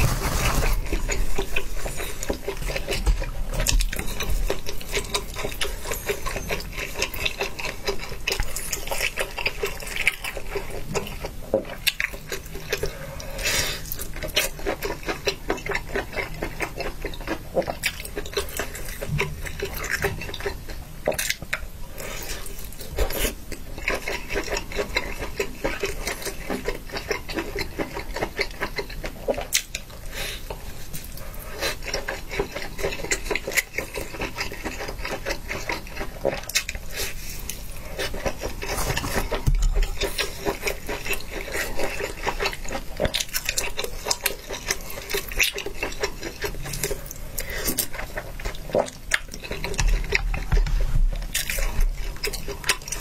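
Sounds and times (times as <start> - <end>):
wet chewing and slurping: 0.0 - 53.0.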